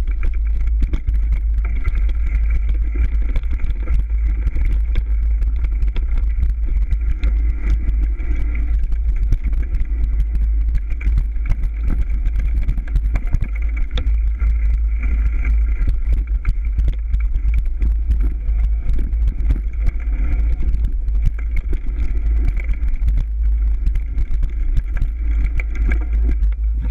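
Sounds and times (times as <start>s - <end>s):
wind and vibration rumble: 0.0s - 26.9s.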